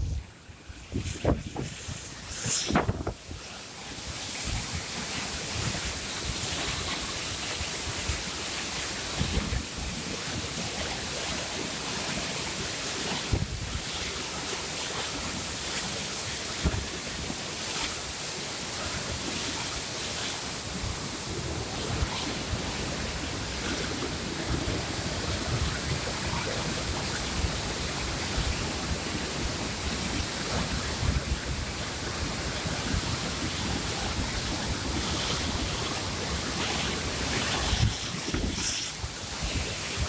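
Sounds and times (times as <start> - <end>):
water pouring through a dam: 0.0 - 40.0.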